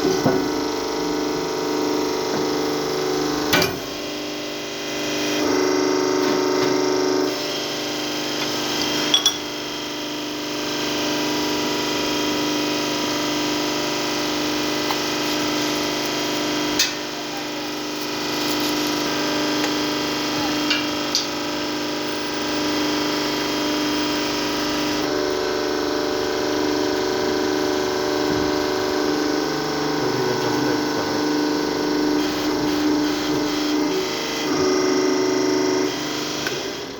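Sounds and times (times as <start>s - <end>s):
workshop machine humming: 0.0s - 36.9s.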